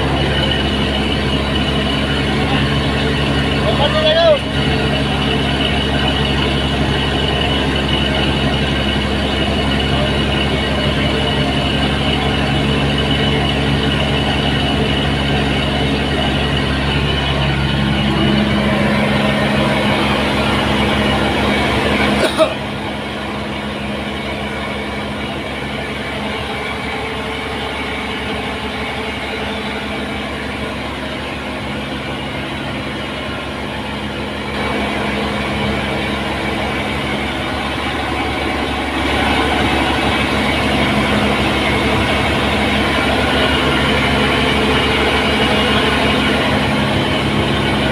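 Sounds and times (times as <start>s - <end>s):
engine running: 0.0s - 47.9s.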